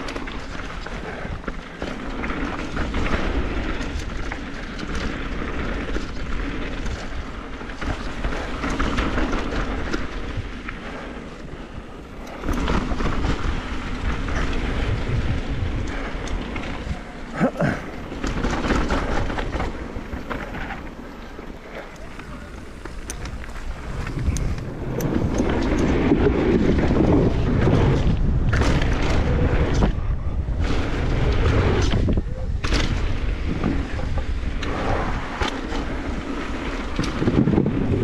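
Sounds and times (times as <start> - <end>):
bike rattling: 0.0 - 38.0
bike tyres rumbling over gravel: 0.0 - 38.0.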